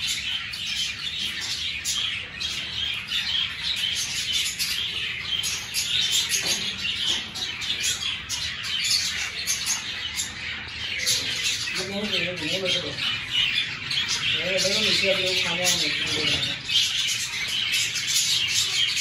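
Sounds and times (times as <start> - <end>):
caged birds chirping: 0.0 - 19.0.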